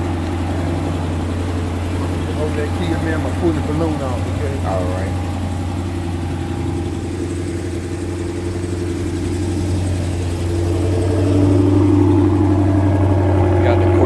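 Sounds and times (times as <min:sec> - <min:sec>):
car engine droning at low revs: 0:00.0 - 0:14.0.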